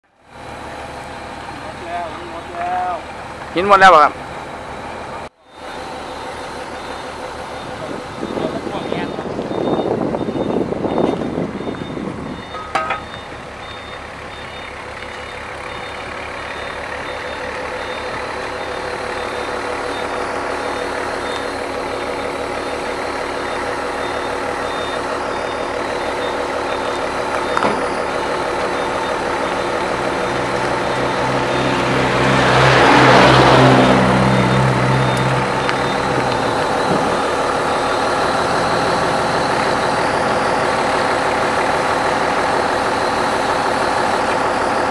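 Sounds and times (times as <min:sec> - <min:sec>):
heavy diesel engine running: 0:00.0 - 0:44.9
reversing beeper: 0:03.6 - 0:44.9.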